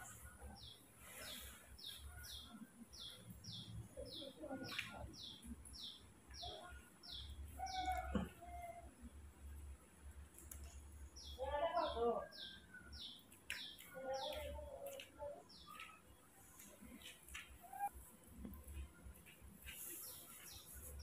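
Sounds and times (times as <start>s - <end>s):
bird chirping: 0.0s - 8.8s, 10.5s - 18.9s, 19.6s - 21.0s.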